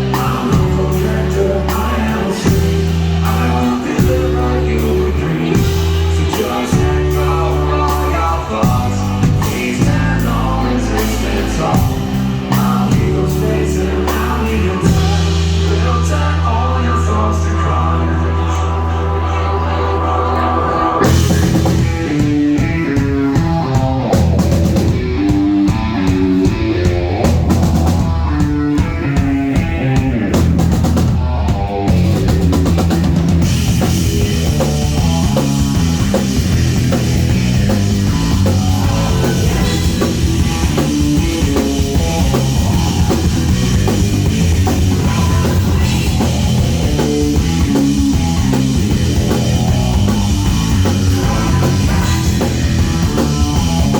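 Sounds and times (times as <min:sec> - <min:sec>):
bass line: 0:00.0 - 0:53.9
drum kit: 0:00.0 - 0:53.9
rock band playing live: 0:00.0 - 0:53.9.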